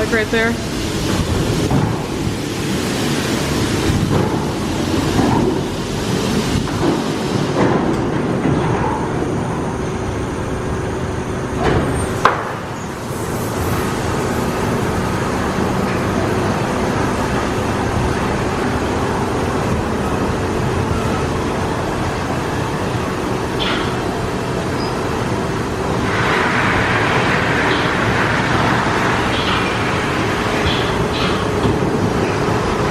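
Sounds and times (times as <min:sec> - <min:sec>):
car wash water spray and machinery: 0:00.0 - 0:32.9.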